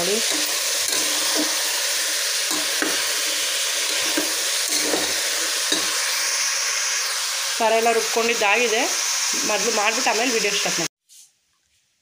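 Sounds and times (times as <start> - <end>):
vegetables sizzling in a pot: 0.0 - 10.9.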